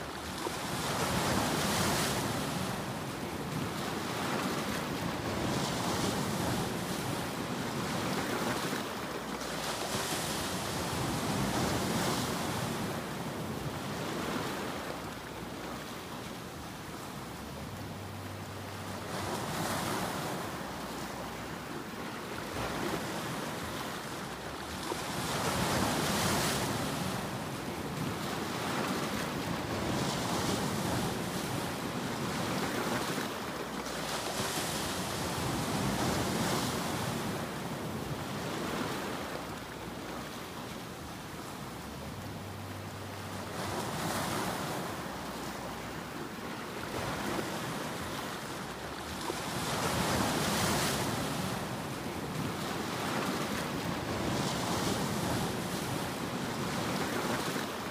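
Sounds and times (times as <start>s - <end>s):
ocean surf breaking on beach: 0.0s - 57.9s.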